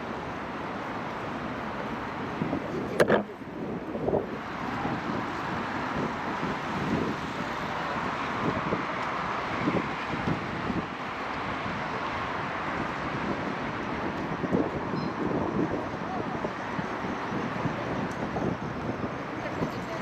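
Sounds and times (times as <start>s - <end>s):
road traffic rushing: 0.0s - 20.0s.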